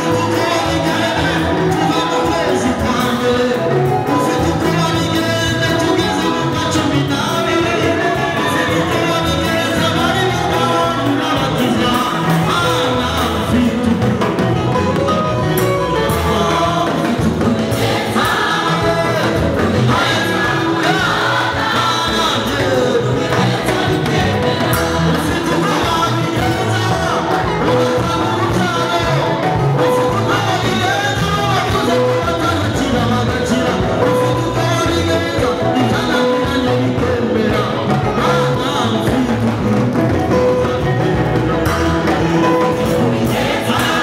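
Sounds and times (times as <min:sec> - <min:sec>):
choir singing gospel with instruments: 0:00.0 - 0:44.0.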